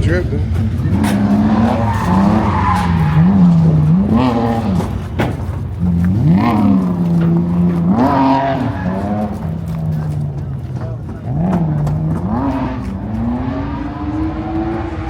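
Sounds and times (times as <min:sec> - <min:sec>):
car engine revving: 0:00.0 - 0:15.0
tyres screeching: 0:00.0 - 0:15.0.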